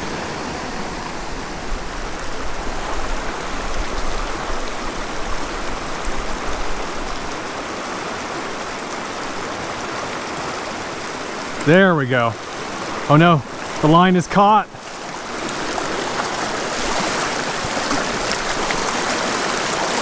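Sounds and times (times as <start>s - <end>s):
stream rushing over rocks: 0.0s - 20.0s.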